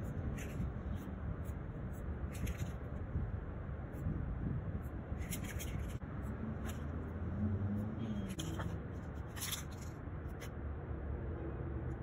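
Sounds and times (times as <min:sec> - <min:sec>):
low background rumble: 0:00.0 - 0:11.1.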